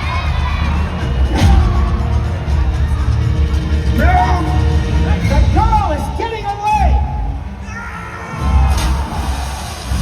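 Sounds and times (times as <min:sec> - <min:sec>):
action music with pounding bass: 0:00.0 - 0:10.0.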